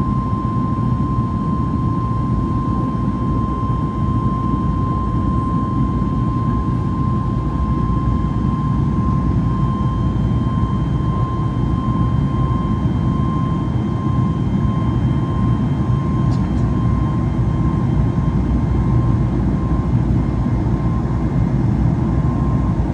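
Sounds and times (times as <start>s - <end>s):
jet engine high whine: 0.0s - 22.9s
jet engines rumbling: 1.4s - 22.9s.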